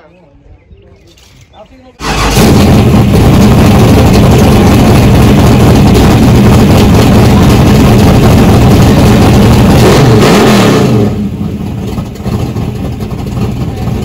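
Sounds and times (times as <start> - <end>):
engine rough lumpy idle: 2.0 - 10.2, 10.8 - 14.0.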